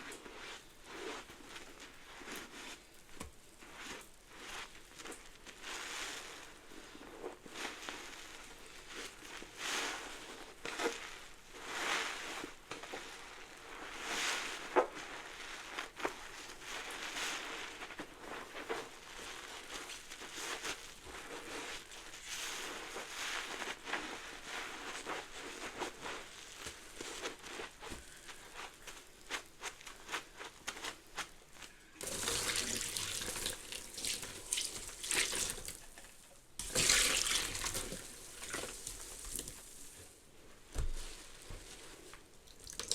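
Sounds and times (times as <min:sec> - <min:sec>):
sponge squeezing suds: 0:00.0 - 0:42.9.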